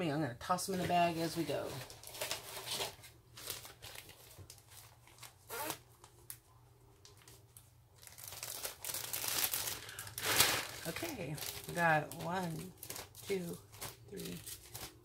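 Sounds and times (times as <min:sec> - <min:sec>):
plastic bags crinkling: 0:00.7 - 0:06.3, 0:07.0 - 0:15.0.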